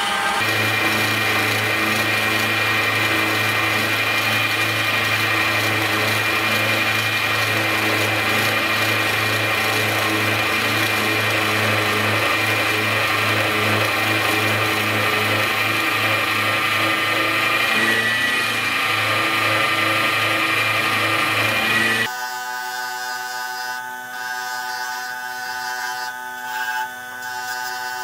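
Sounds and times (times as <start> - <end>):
milling machine cutting metal: 0.0 - 28.0.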